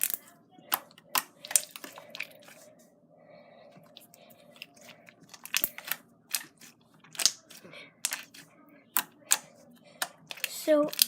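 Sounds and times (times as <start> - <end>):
slime squishing with wet clicks: 0.0 - 2.6, 3.9 - 11.0.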